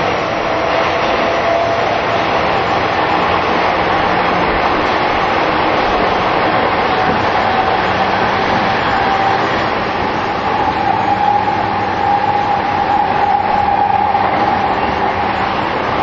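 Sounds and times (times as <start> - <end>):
train wheels and motors rumbling: 0.0 - 16.0.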